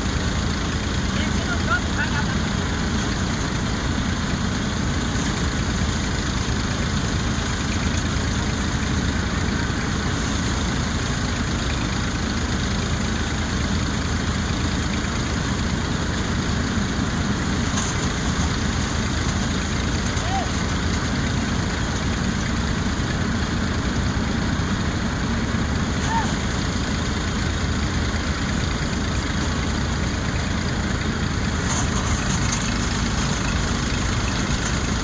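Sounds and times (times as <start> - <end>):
tractor engine running under load: 0.0 - 35.0.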